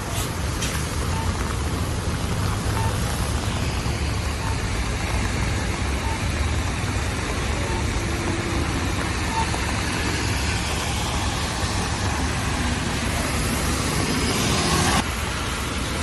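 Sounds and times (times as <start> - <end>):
rain hissing on wet road: 0.0 - 16.0
traffic rumble: 0.0 - 16.0.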